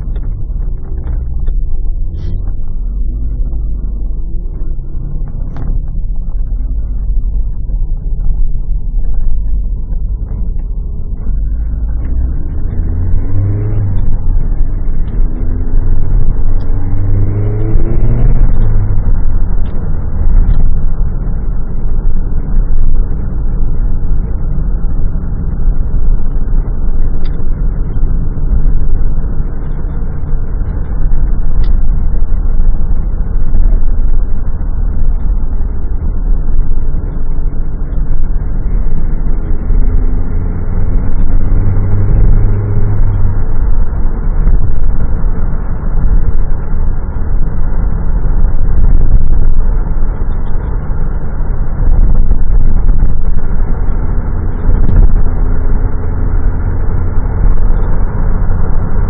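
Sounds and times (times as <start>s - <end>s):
car engine pulling hard: 0.0s - 59.0s
gear change: 0.0s - 59.0s
road noise: 0.0s - 59.0s.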